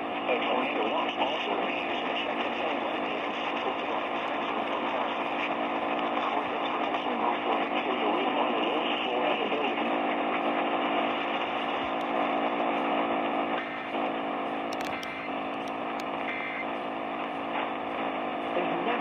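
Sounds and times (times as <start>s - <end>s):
radio static hiss and hum: 0.0s - 19.0s.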